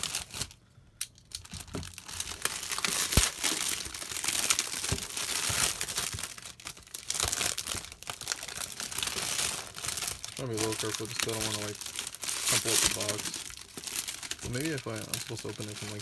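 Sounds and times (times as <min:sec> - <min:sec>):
plastic wrap crinkling and tearing: 0:00.0 - 0:16.0.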